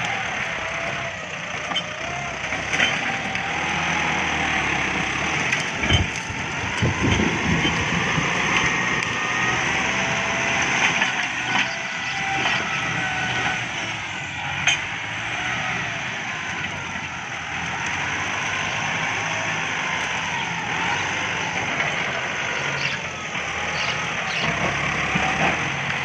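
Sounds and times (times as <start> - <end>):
tractor diesel engine whining: 0.0 - 26.0.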